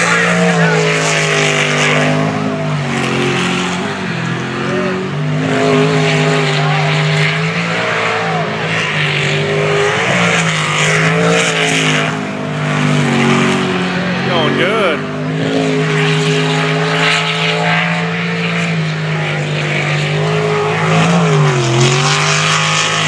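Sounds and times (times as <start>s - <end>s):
boat racing engine: 0.0s - 23.0s.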